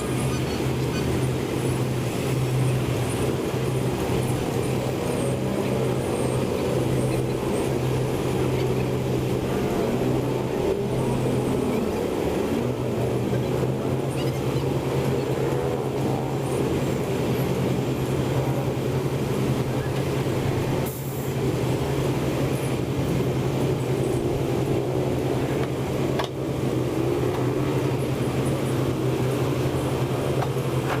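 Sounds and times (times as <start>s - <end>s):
heavy construction machinery running: 0.0s - 31.0s.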